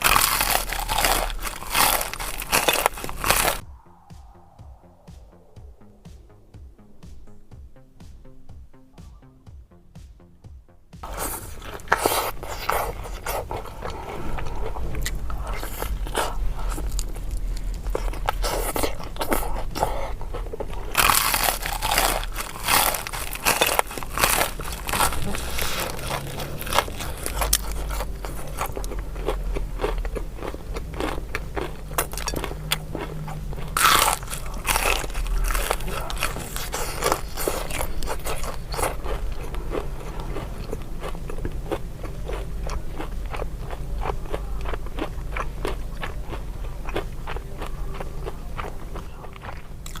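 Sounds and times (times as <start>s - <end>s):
crunching and chewing fried chicken: 0.0s - 3.6s, 11.0s - 50.0s.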